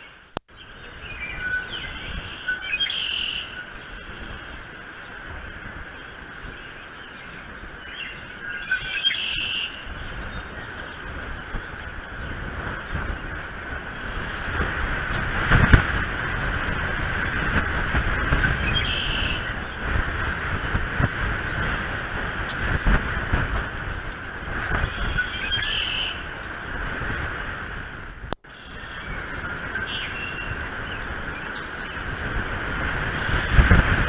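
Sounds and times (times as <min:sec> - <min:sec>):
rain hiss: 0:00.0 - 0:34.0
wind rumbling on microphone: 0:00.0 - 0:34.0.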